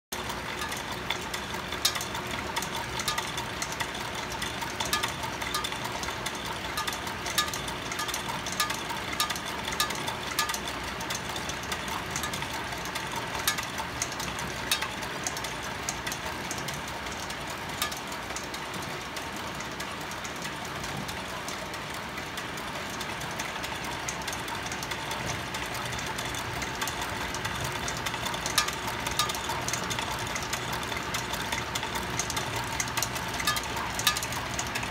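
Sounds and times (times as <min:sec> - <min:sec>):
whirligig whirring: 0:00.2 - 0:34.9.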